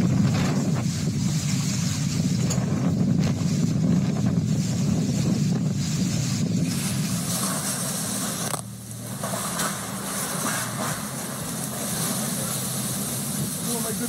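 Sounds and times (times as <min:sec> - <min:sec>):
wind and rain on microphone: 0:00.0 - 0:14.0.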